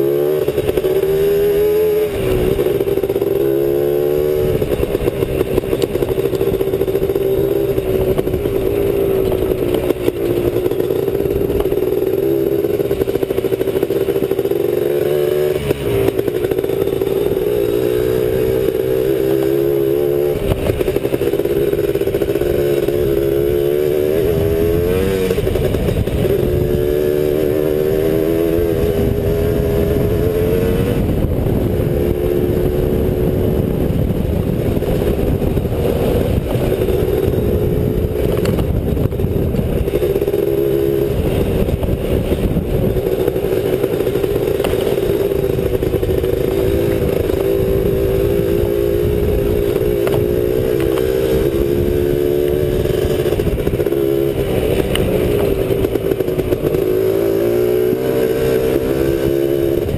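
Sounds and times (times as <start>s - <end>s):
motorcycle engine revving: 0.0s - 59.9s
rough rumble and rattle from riding: 0.0s - 59.9s.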